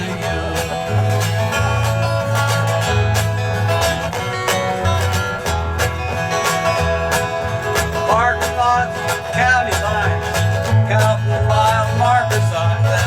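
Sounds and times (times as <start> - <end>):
acoustic guitar picking: 0.0 - 13.0
banjo picking: 0.0 - 13.0
steady bass line: 0.0 - 13.0.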